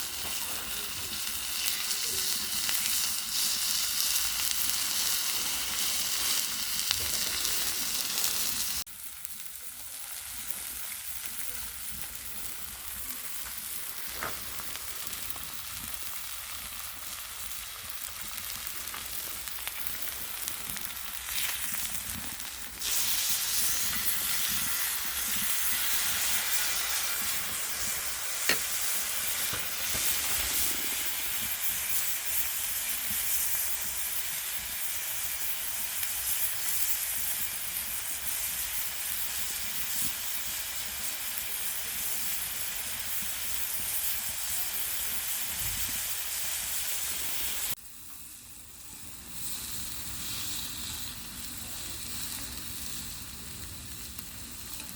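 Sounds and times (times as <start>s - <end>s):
pork sizzling on griddle: 0.0s - 54.9s.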